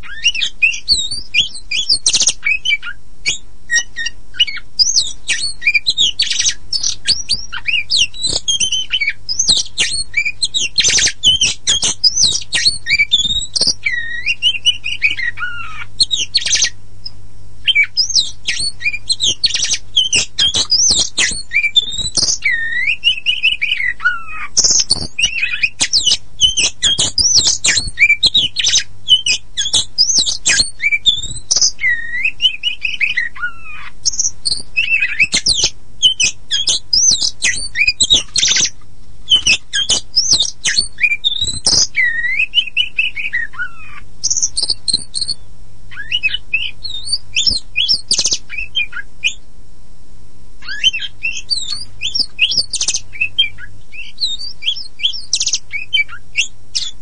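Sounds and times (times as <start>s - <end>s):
bird singing whistles and chatter: 0.0s - 16.8s, 17.6s - 49.4s, 50.6s - 57.0s.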